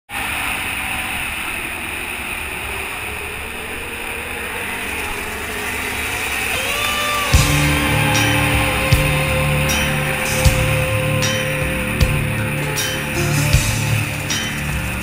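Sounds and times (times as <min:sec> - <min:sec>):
dense rushing noise: 0:00.2 - 0:15.0
quad bike engine running: 0:00.2 - 0:15.0.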